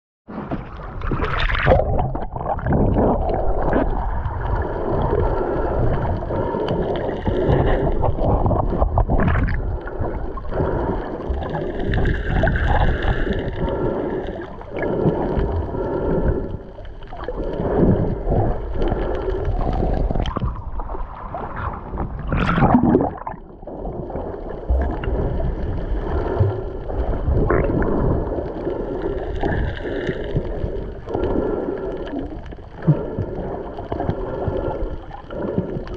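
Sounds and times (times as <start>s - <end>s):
deep underwater noise: 0.3s - 35.9s
water sloshing and gurgling: 0.3s - 35.9s.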